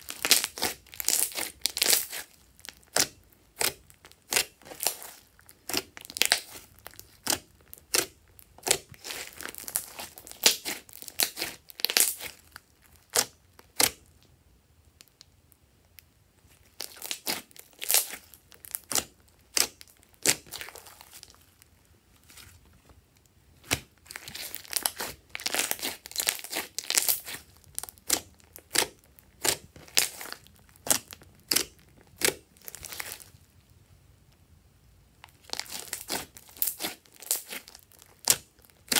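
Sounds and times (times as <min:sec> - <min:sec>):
slime squished by hand: 0:00.0 - 0:14.0, 0:16.6 - 0:21.4, 0:23.6 - 0:33.4, 0:35.3 - 0:38.9.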